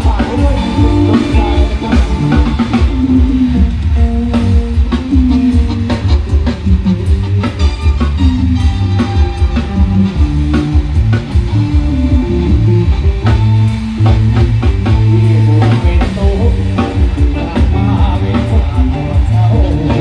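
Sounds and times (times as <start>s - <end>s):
drum kit: 0.0s - 20.0s
guitar: 0.0s - 20.0s
heavy bass line: 0.0s - 20.0s.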